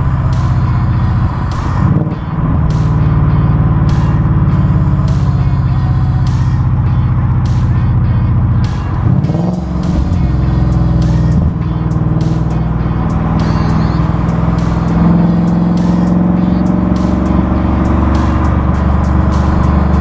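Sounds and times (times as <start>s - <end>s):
loud car exhaust drone: 0.0s - 20.0s.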